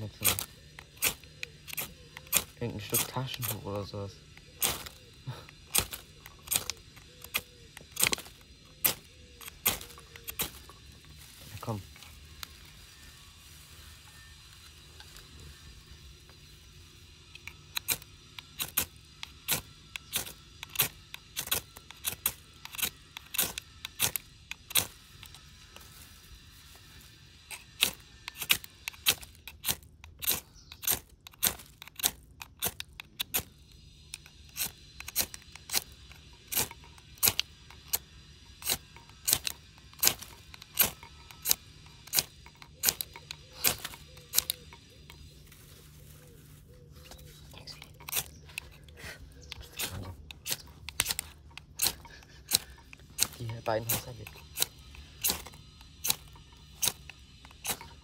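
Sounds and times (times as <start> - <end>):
fire starter scraping strikes: 0.0 - 45.8, 47.0 - 58.0.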